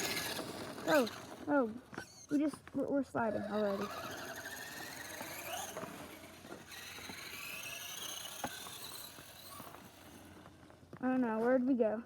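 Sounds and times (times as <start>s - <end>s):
electric motor whining: 0.0s - 2.5s, 3.2s - 10.7s.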